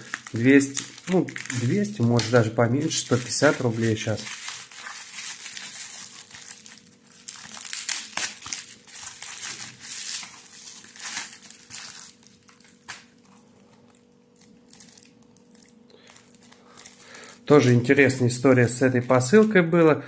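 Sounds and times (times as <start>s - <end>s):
bubble wrap and plastic crinkling: 0.0s - 20.0s.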